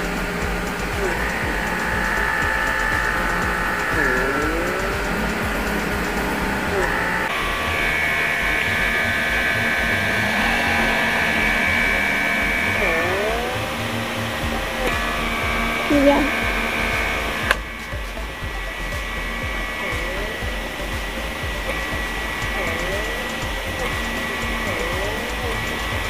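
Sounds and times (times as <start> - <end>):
pore vacuum whining: 0.0 - 26.0.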